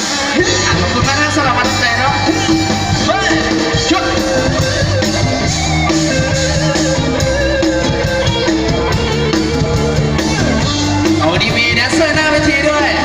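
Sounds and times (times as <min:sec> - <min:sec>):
drum kit: 0:00.0 - 0:13.0
guitar: 0:00.0 - 0:13.0.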